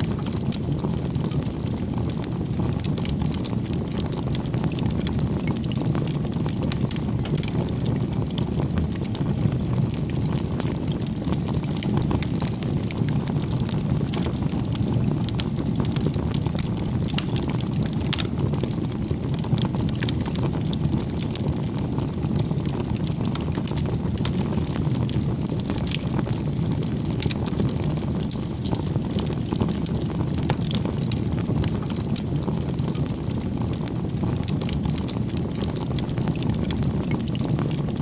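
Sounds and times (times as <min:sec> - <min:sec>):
fire crackling and popping: 0:00.0 - 0:38.0
low rush of flames: 0:00.0 - 0:38.0.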